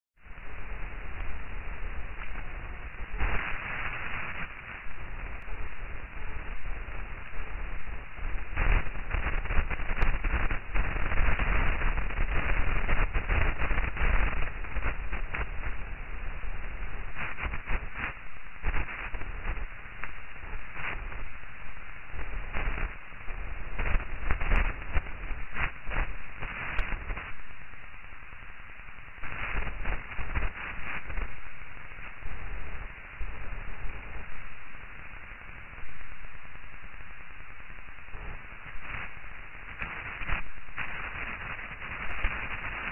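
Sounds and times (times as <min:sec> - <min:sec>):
radio static hiss: 0:00.2 - 0:42.9.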